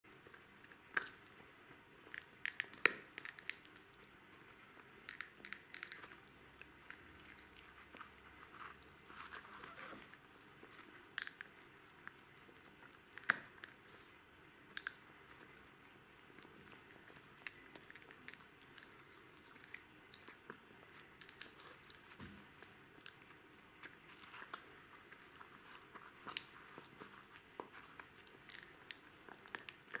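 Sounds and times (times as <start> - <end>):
puppy gnawing chew stick: 0.1 - 30.0.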